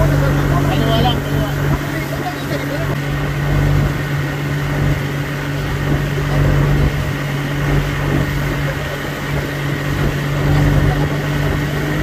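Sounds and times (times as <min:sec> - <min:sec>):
motorboat engine drone: 0:00.0 - 0:12.0
rush of air and water: 0:00.0 - 0:12.0.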